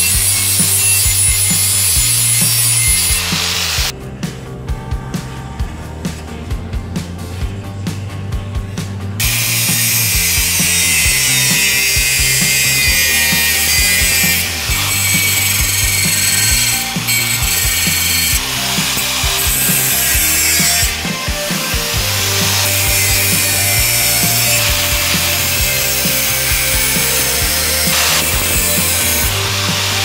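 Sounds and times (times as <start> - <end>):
angle grinder cutting metal: 0.0 - 3.9, 9.2 - 30.0
rock music: 0.0 - 30.0.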